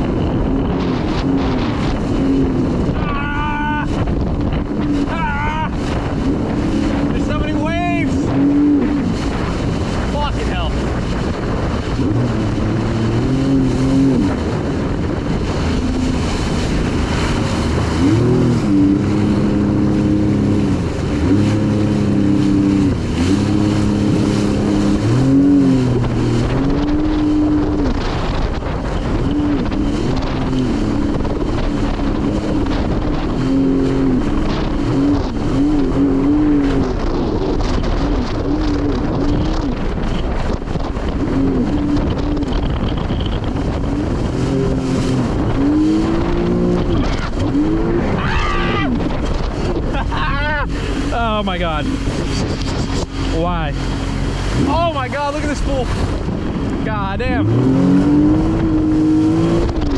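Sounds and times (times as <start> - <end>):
jet ski engine revving: 0.0 - 59.9
steady rushing noise: 0.0 - 59.9.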